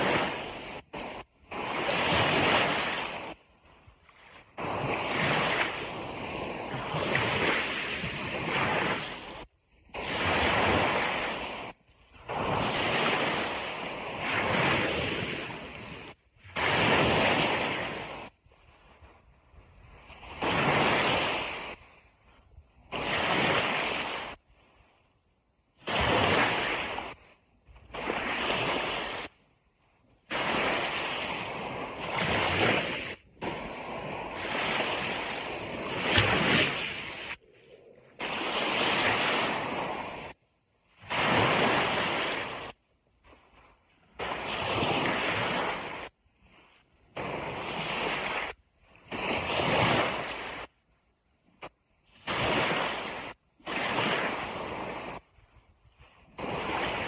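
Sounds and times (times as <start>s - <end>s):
wind on microphone: 0.0s - 24.9s, 30.2s - 48.5s, 52.3s - 57.0s
waves washing on beach: 0.0s - 57.0s.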